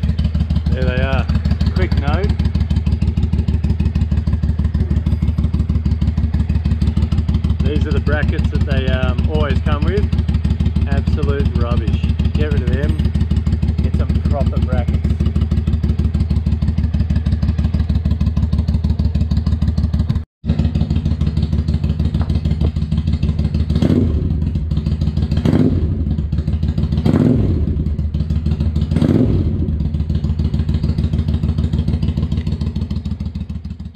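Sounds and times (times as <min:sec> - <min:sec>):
motorcycle engine idling: 0:00.0 - 0:33.9
motorcycle throttle blips: 0:00.0 - 0:33.9.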